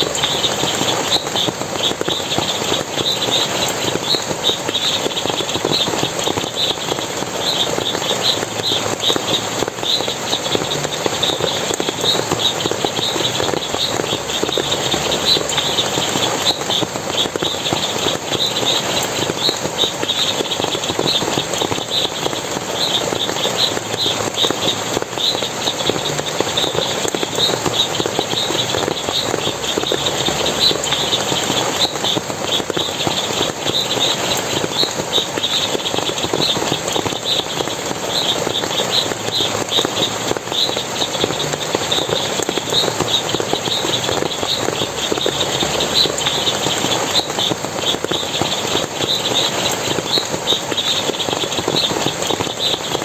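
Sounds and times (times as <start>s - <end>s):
water splashing and running: 0.0s - 53.0s.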